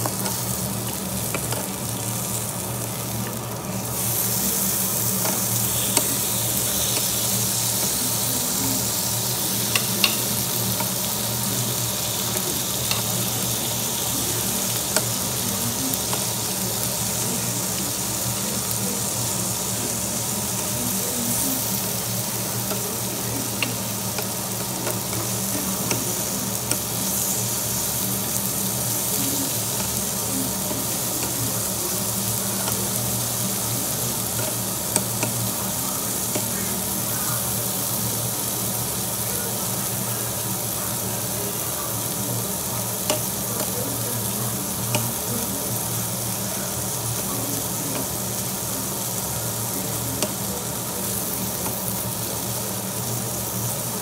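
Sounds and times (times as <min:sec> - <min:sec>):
meat sizzling on grill: 0:00.0 - 0:54.0.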